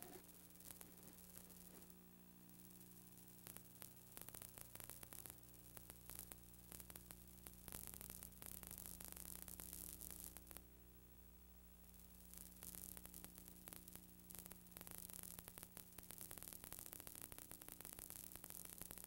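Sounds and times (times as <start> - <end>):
crackling clicks: 0.0 - 10.6, 11.9 - 19.0
electrical hum and hiss: 0.0 - 19.0.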